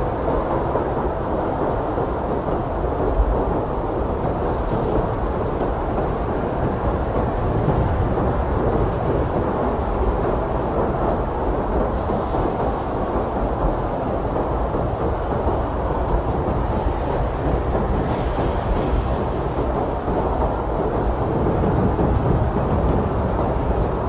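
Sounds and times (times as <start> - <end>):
blizzard wind blowing hard: 0.0 - 24.0.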